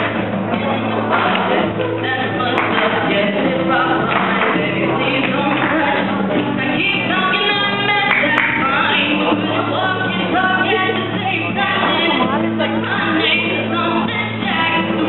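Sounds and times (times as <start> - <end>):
acoustic guitar strumming: 0.0 - 15.0
woman singing into a microphone: 0.5 - 15.0.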